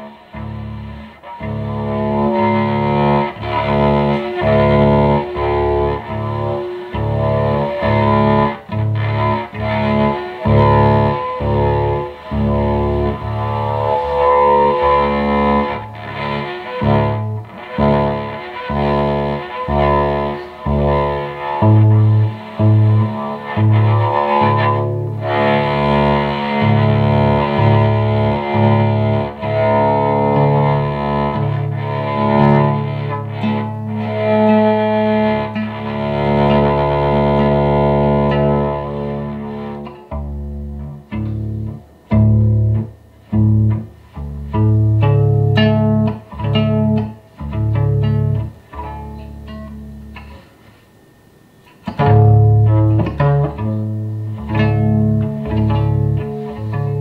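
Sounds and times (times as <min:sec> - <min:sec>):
electric cello bowed and plucked: 0:00.0 - 0:50.5, 0:51.7 - 0:57.0.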